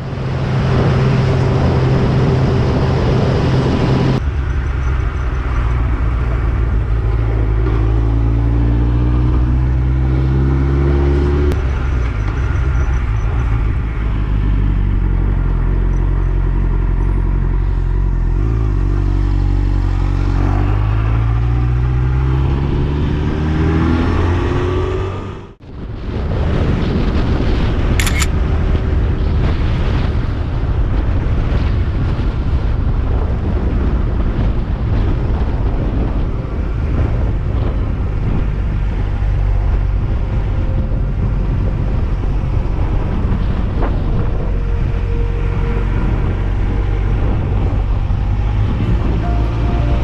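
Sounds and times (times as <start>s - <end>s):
motorcycle engine cruising: 0.0s - 50.0s
wind buffeting microphone: 0.0s - 50.0s.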